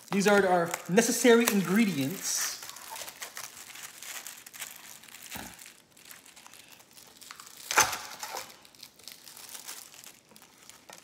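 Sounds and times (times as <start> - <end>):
plastic pouch crinkling: 0.0 - 11.0.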